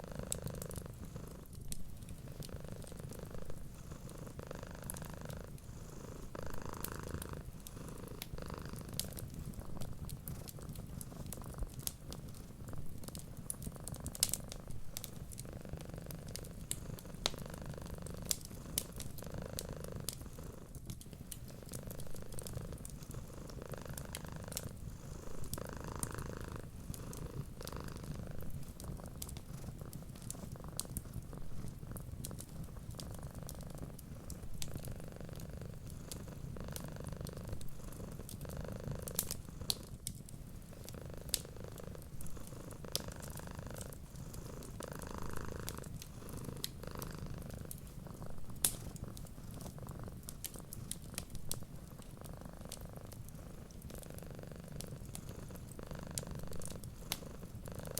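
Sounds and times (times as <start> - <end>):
cat purring: 0.0 - 57.9
wood fire crackling: 0.0 - 57.9.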